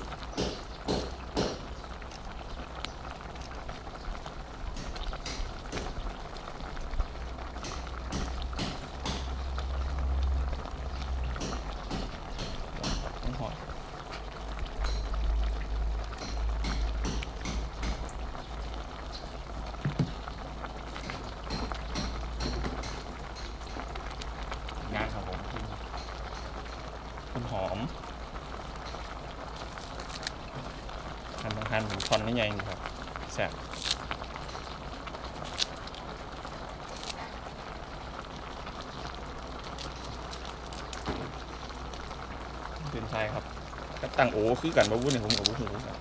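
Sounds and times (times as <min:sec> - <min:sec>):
soup boiling in a pot: 0:00.0 - 0:46.0.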